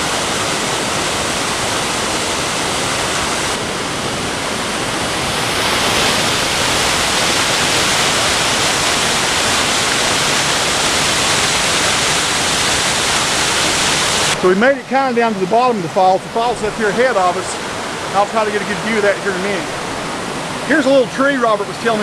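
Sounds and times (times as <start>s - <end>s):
waterfall rushing over rocks: 0.0s - 22.0s.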